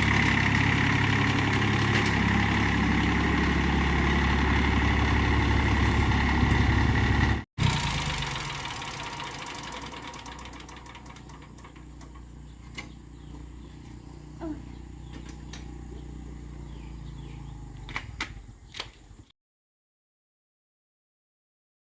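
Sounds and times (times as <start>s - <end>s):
tractor engine running: 0.0s - 19.3s.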